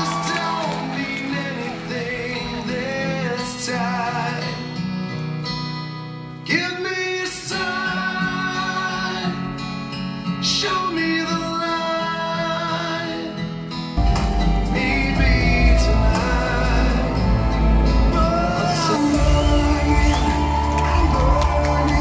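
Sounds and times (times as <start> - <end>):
song with guitar and singing: 0.0 - 22.0.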